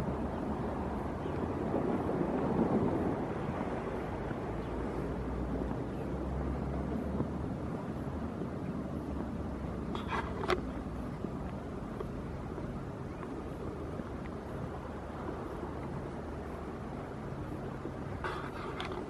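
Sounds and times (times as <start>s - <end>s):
sea against rocks: 0.0s - 19.0s
wind on microphone: 0.0s - 19.0s.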